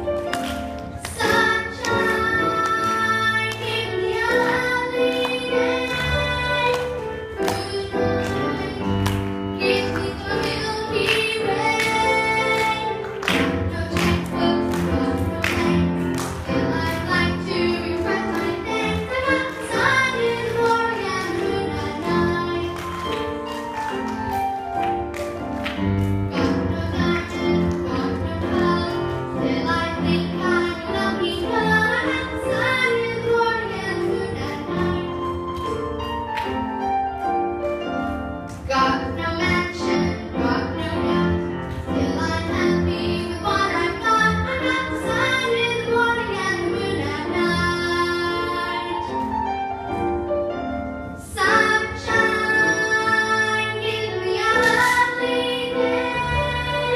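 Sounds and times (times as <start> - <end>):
instrumental accompaniment: 0.0 - 56.9
girl singing into a microphone: 1.0 - 23.2, 26.4 - 35.2, 38.6 - 49.3, 51.2 - 56.9.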